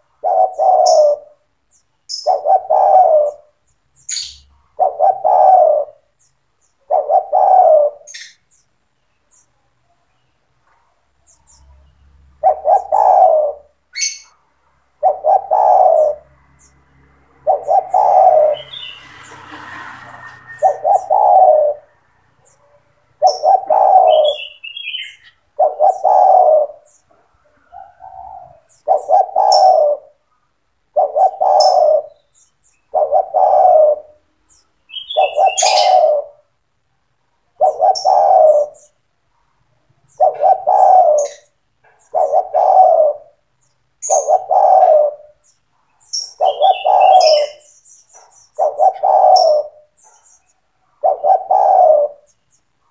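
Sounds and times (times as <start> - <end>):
dove cooing: 0.0 - 8.7, 11.2 - 34.3, 34.9 - 36.6, 37.4 - 39.2, 39.9 - 52.9
small birds chirping: 0.0 - 52.9.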